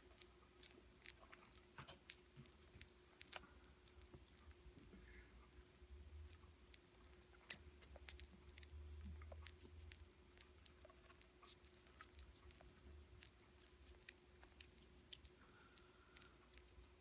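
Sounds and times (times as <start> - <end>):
animal chewing wetly: 0.0 - 17.0.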